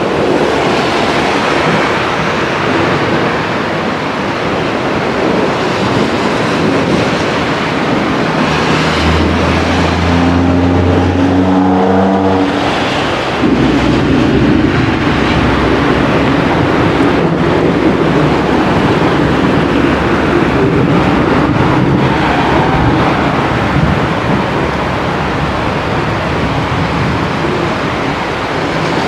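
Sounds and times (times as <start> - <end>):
heavy rain: 0.0 - 29.0
low thunder rumble: 4.9 - 29.0.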